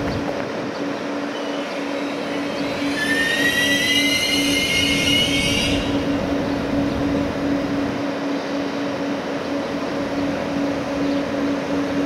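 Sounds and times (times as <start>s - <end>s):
high-pitched train whine: 0.0s - 12.0s
train rumble: 0.0s - 12.0s.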